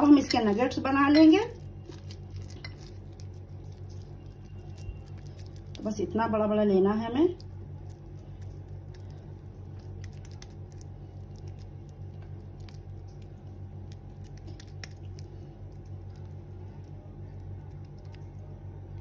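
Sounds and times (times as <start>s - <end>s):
sticky squelches of patted meat: 0.0s - 6.3s, 7.3s - 18.5s
steady low hum: 0.0s - 19.0s.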